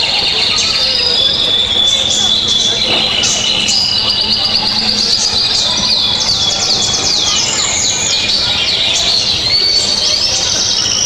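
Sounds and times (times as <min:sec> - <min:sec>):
bird-like chirps and whistles: 0:00.0 - 0:11.0.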